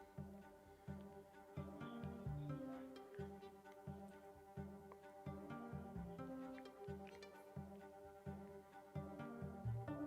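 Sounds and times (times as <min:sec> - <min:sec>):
plucked low string notes: 0:00.0 - 0:10.0.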